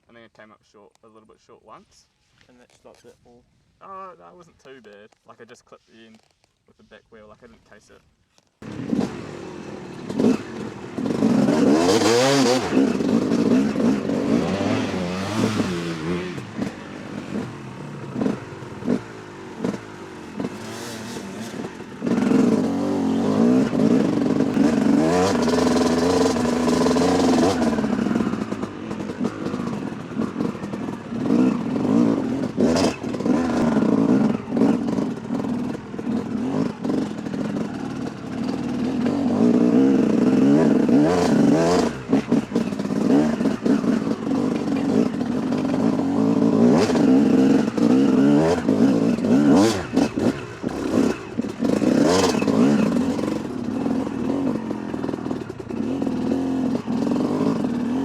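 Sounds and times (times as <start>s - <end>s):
dirt bike engine revving: 8.6s - 58.0s.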